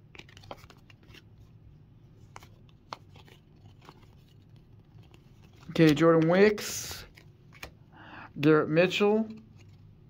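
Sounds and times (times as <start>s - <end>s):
cards clicking and rustling: 0.0s - 1.4s, 2.2s - 7.8s, 8.8s - 10.0s.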